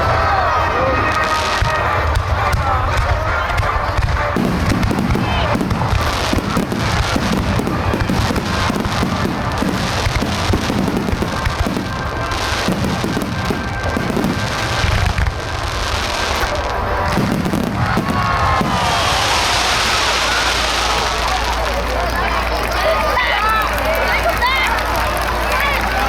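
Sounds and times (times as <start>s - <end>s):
fireworks booms and crackle: 0.0s - 26.0s.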